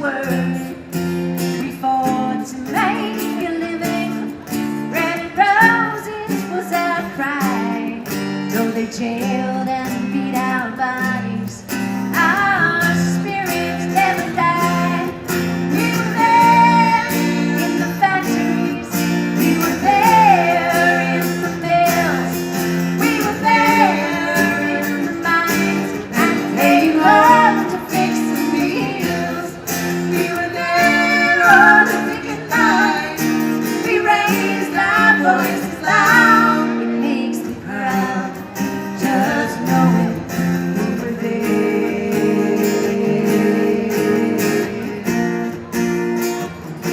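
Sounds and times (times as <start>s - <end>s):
women singing folk song: 0.0s - 45.3s
strummed acoustic guitar: 0.0s - 46.9s.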